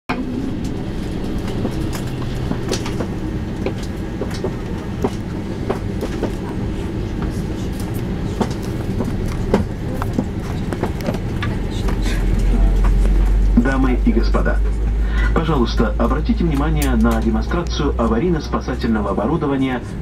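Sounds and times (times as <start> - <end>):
aircraft cabin low rumble: 0.1 - 20.0.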